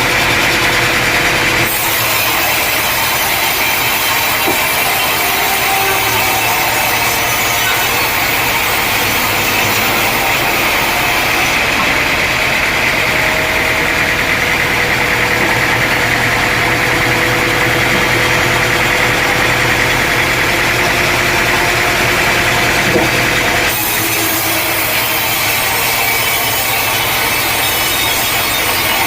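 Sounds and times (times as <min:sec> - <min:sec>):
sawmill machinery drone: 0:00.0 - 0:29.0.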